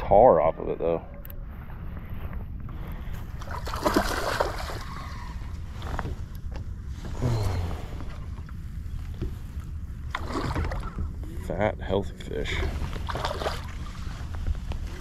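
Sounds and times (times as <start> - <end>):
water around boat: 0.0 - 15.0
wind: 0.0 - 15.0.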